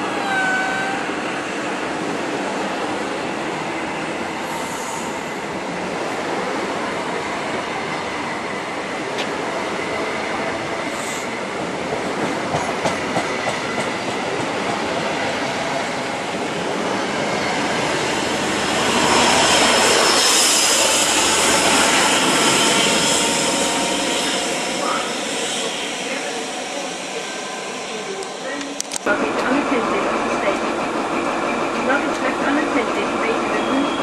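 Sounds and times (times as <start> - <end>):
train coaches rolling past: 0.0 - 34.0.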